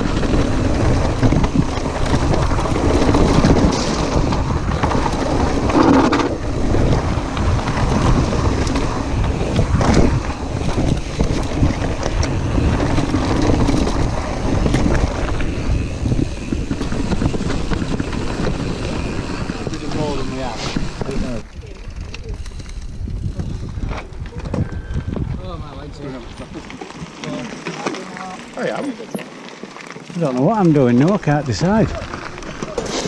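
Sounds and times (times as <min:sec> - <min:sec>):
wind buffeting microphone: 0:00.0 - 0:26.6
bike knocking and rattling: 0:00.0 - 0:33.0
tyres rumbling over gravel: 0:00.0 - 0:33.0.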